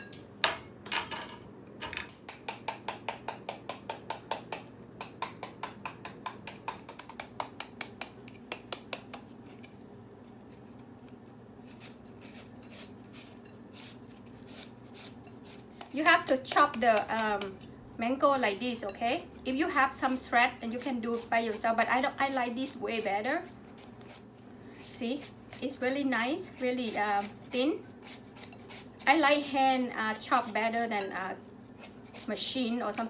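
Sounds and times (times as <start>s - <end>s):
knife chopping mango: 2.2s - 9.7s, 11.7s - 17.7s, 18.8s - 33.0s.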